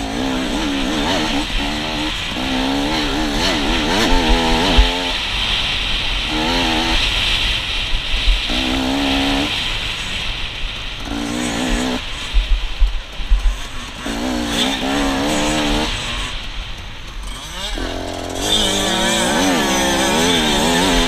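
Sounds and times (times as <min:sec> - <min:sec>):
dirt bike engine revving: 0:00.0 - 0:21.0
wind noise on microphone: 0:00.0 - 0:21.0.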